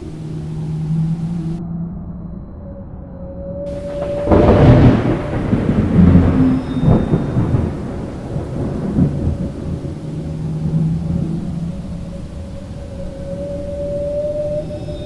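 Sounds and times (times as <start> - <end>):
rain hissing: 0.0 - 1.6, 3.7 - 15.0
thunder rumbling: 0.0 - 1.6, 3.7 - 15.0.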